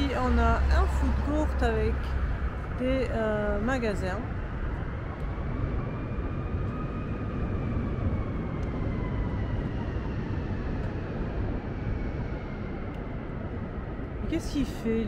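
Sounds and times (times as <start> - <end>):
city street noise: 0.0 - 15.0
faint rising and falling whine: 0.0 - 15.0.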